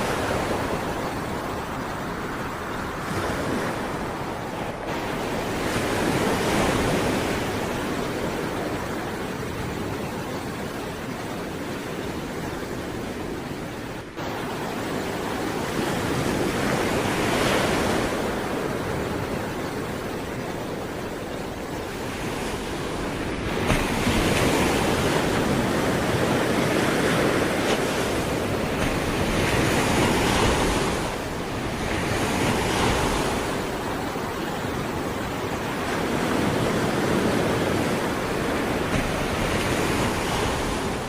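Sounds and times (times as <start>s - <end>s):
sea waves breaking on shore: 0.0s - 41.0s.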